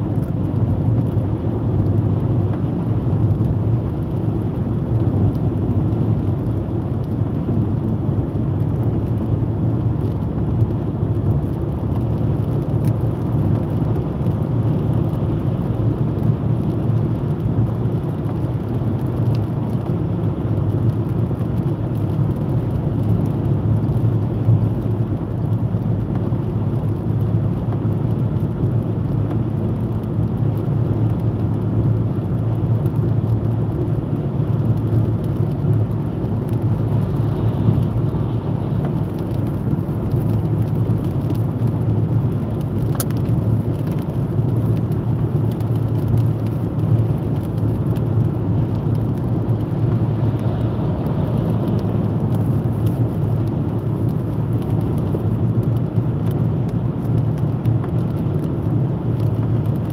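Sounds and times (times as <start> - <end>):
tyre and engine rumble: 0.0 - 59.9.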